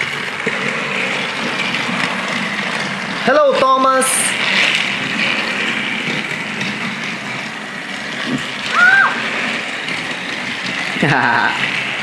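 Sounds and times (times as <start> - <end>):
toy trains whirring on track: 0.0 - 12.0.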